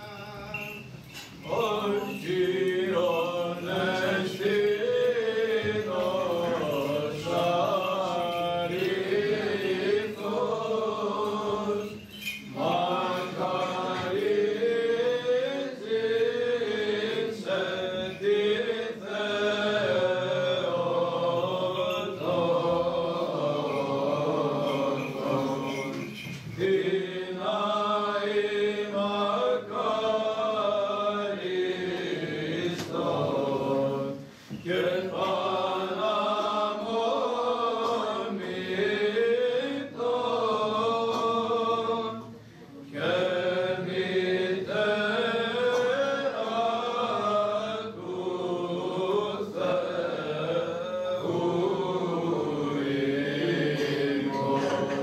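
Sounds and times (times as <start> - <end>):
choir chanting: 0.0 - 55.0.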